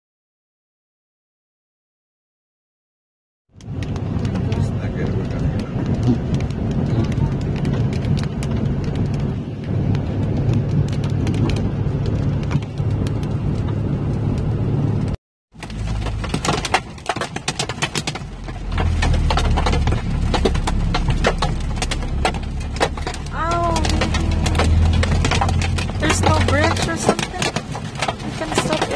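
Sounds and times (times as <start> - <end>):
engine and road noise in cab: 3.5 - 28.9
heavy rain striking windshield: 3.6 - 28.9.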